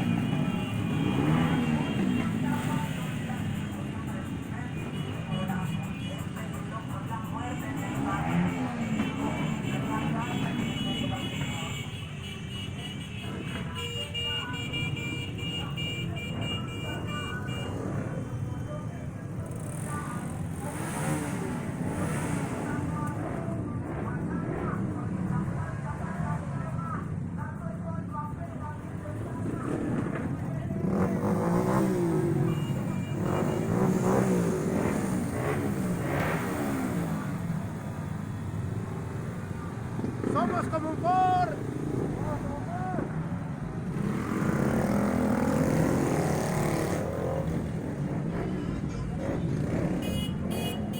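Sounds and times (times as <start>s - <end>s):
low rumble of vehicle engines: 0.0s - 50.9s.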